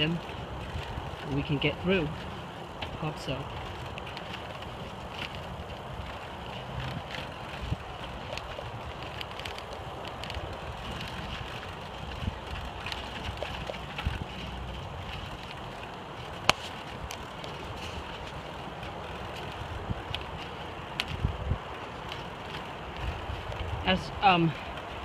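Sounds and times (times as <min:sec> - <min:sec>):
mountain bike rolling on dirt: 0:00.0 - 0:25.0.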